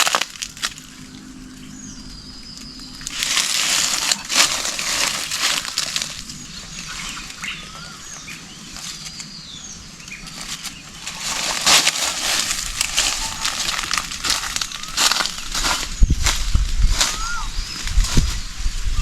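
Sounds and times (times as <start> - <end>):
rustling and crackling handling: 0.0 - 18.7
small birds chirping: 0.0 - 19.0.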